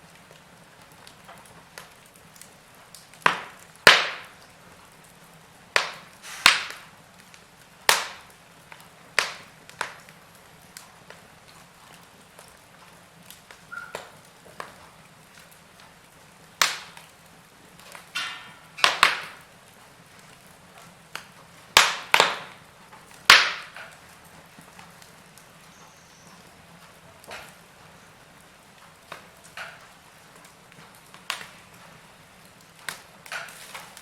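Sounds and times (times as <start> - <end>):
faint steady hiss: 0.0 - 34.0
wood logs crackling in fireplace: 0.0 - 34.0.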